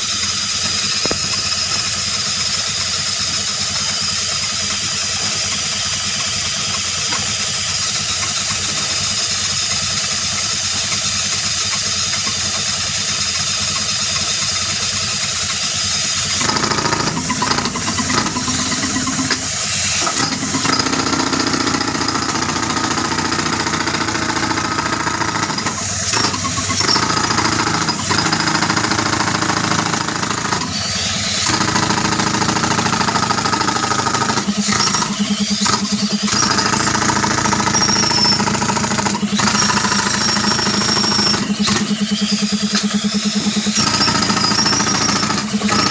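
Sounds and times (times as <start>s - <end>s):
air compressor engine running: 0.0s - 45.9s
pneumatic breaker hammering rock: 0.0s - 45.9s.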